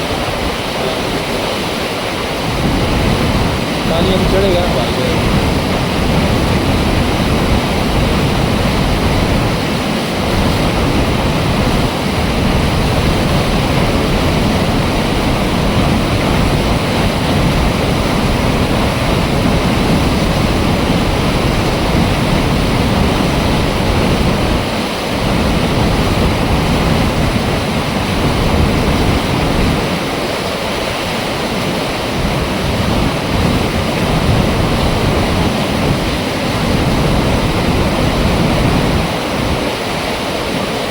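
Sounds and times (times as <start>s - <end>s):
water rushing through dam gate: 0.0s - 40.9s.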